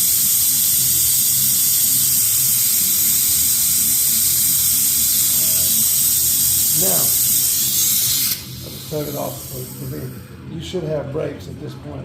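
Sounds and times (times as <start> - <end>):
air-powered pump hissing: 0.0 - 10.2.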